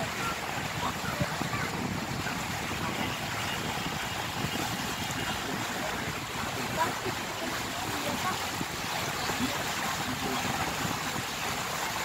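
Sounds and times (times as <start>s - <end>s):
boat noise: 0.0s - 12.0s
water rushing along hull: 0.0s - 12.0s
wind on microphone: 0.0s - 12.0s.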